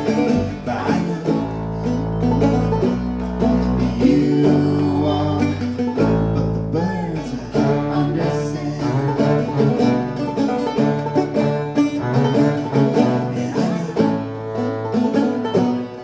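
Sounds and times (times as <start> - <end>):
quick plucked-string picking: 0.0 - 16.0
upright bass low notes: 0.0 - 16.0.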